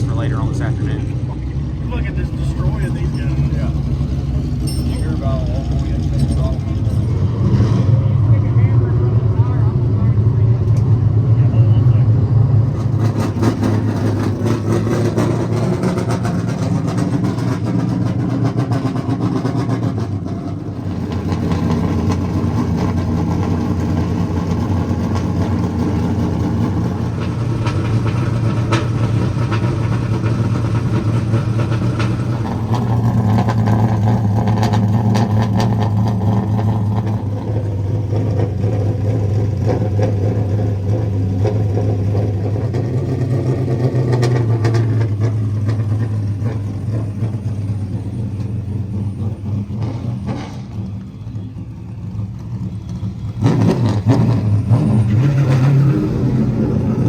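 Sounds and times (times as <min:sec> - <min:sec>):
stock car engines running: 0:00.0 - 0:57.0.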